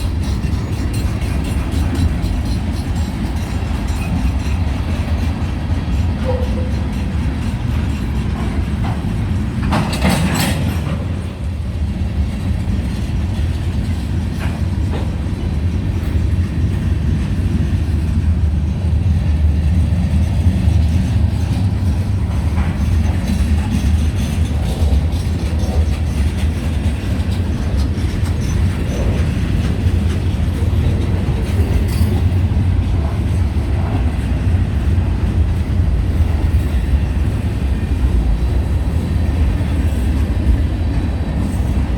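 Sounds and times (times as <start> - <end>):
freight train rumbling past: 0.0 - 41.9
wheels clicking over rail joints: 0.0 - 41.9.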